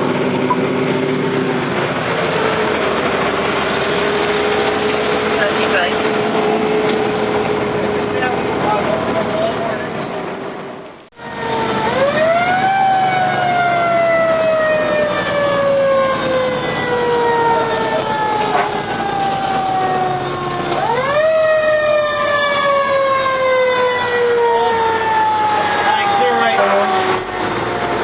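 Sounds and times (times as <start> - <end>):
fire engine siren wailing: 0.0 - 10.5, 11.1 - 28.0
truck engine running: 0.0 - 28.0.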